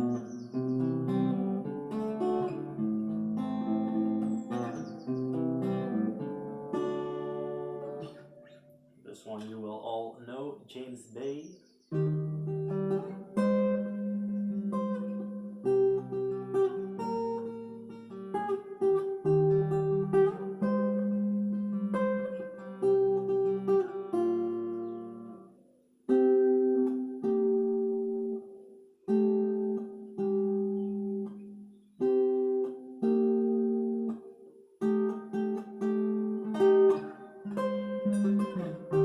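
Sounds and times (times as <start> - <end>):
acoustic guitar chords ringing: 0.0 - 39.0.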